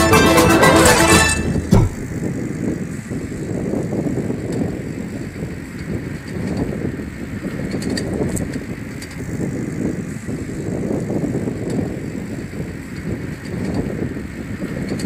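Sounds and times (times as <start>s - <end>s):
low outdoor rumble: 0.0s - 14.7s.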